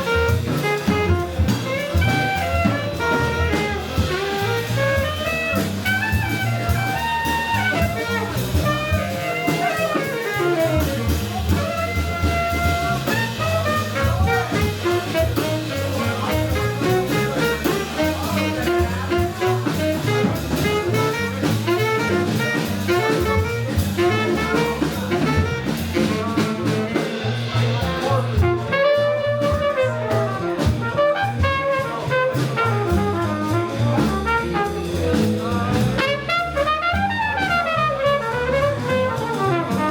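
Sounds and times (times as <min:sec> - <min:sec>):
drum kit: 0:00.0 - 0:39.9
horn playing melody: 0:00.0 - 0:39.9
low accompaniment: 0:00.0 - 0:39.9.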